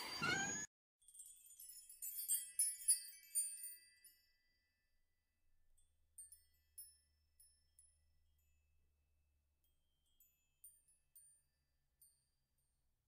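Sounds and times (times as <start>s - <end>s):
bright tinkling chimes: 0.0s - 12.6s.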